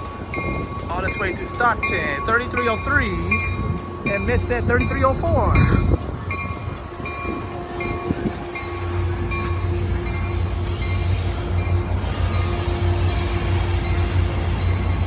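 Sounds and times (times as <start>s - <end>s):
train bell dinging: 0.0s - 15.0s
train rumble: 0.0s - 15.0s.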